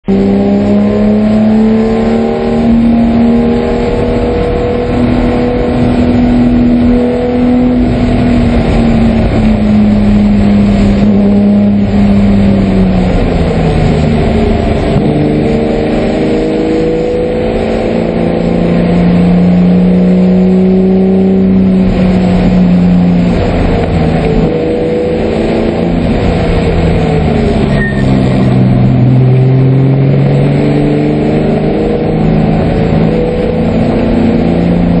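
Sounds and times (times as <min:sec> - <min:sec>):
race car engine under load: 0:00.0 - 0:35.0.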